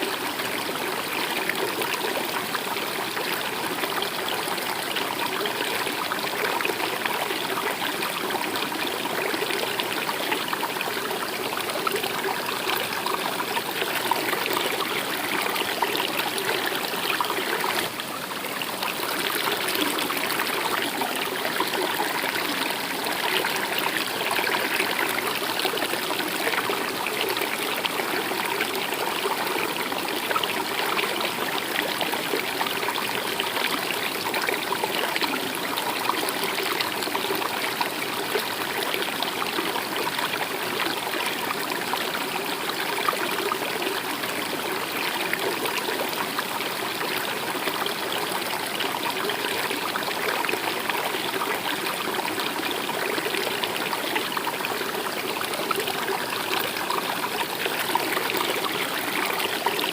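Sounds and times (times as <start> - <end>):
stream babbling and trickling: 0.0 - 59.9.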